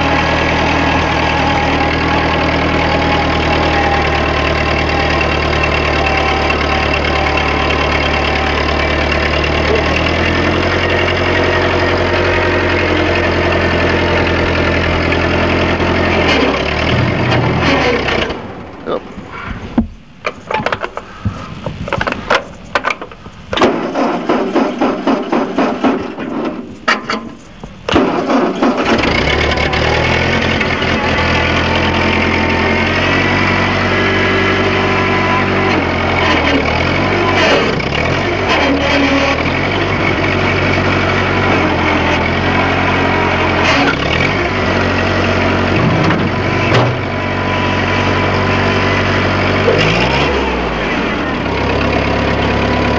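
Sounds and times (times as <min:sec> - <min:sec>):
tractor engine cranking: 0:00.0 - 0:52.9
tractor engine idling: 0:00.0 - 0:52.9.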